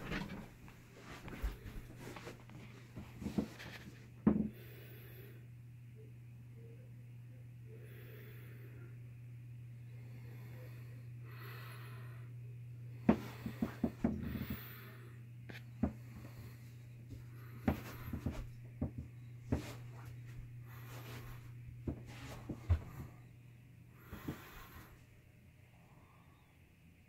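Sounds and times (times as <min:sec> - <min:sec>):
soft breathy noises: 0:00.0 - 0:26.9
low room hum: 0:00.0 - 0:27.0.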